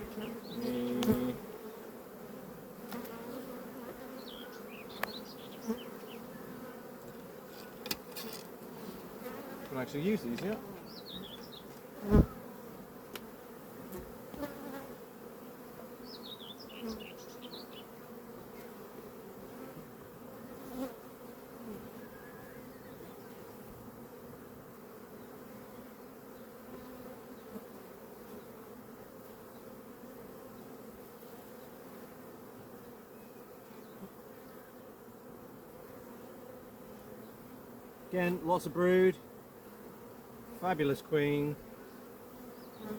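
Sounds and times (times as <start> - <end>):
bees buzzing: 0.0 - 42.9.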